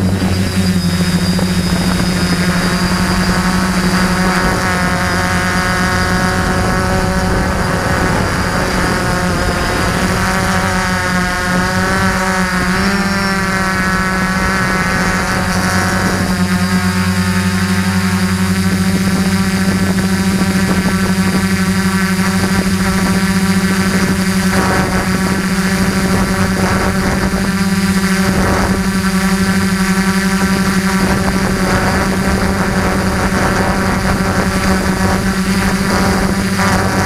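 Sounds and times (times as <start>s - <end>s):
drone motors and propellers buzzing: 0.0s - 37.0s.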